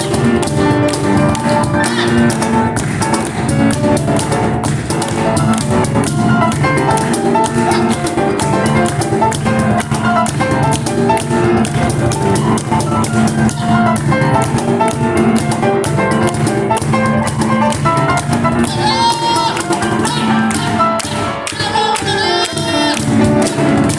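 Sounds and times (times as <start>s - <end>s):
cajon strikes: 0.0s - 23.9s
piano playing: 0.0s - 23.9s.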